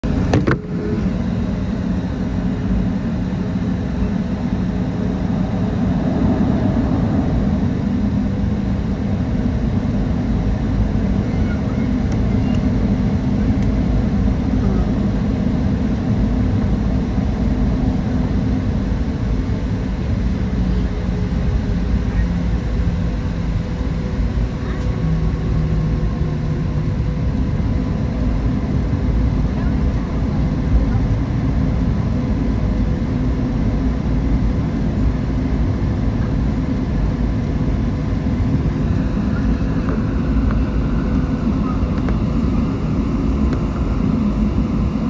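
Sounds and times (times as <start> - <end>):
jet engines droning: 0.0 - 45.0
low rumble: 4.5 - 45.0.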